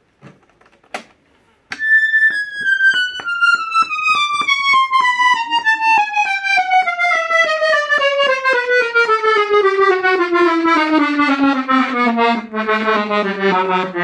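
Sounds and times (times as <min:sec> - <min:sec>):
reed organ descending scale: 0:01.7 - 0:14.0.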